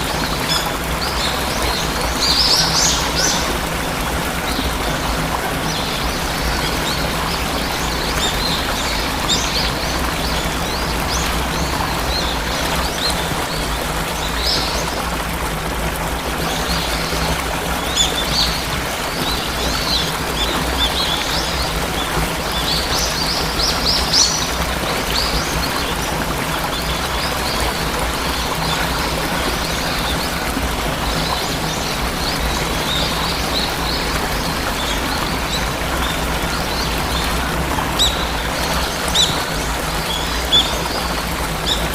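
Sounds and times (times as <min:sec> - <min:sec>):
small birds chirping: 0:00.0 - 0:15.1, 0:16.4 - 0:41.9
waterfall rushing: 0:00.0 - 0:41.9.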